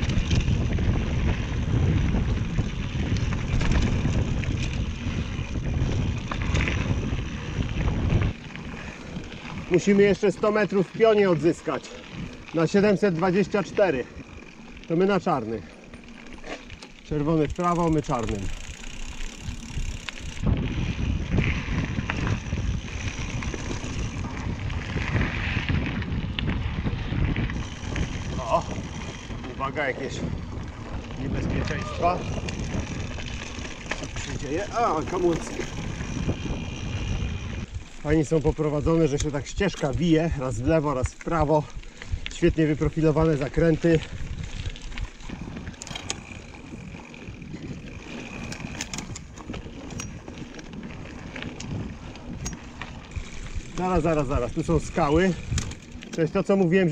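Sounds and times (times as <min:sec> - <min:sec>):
bike clicks and rattles: 0:00.0 - 0:56.9
wind buffeting microphone: 0:00.0 - 0:56.9.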